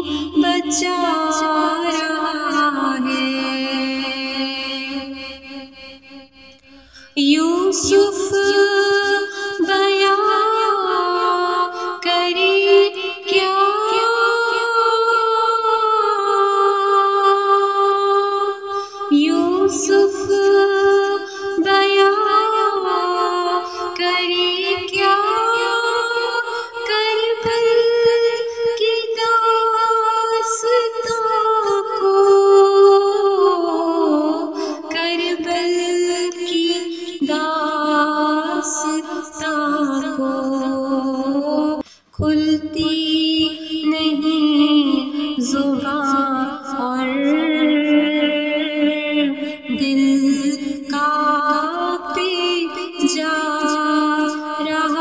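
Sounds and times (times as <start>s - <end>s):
high voice singing devotional melody: 0.0s - 55.0s.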